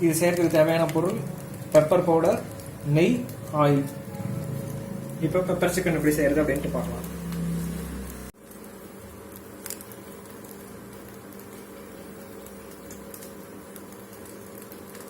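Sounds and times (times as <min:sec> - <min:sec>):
kitchen hum and hiss: 0:00.0 - 0:15.0.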